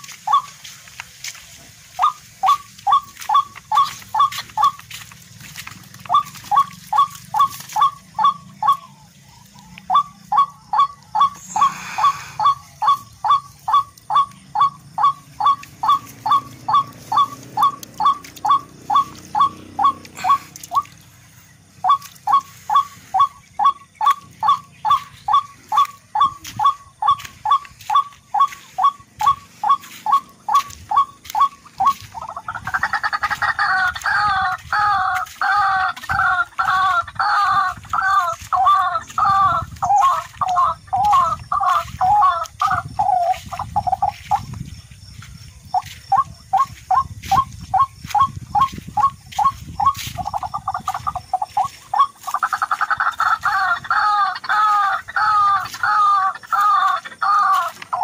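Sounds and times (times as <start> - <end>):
rail bird calls: 0.0 - 58.0.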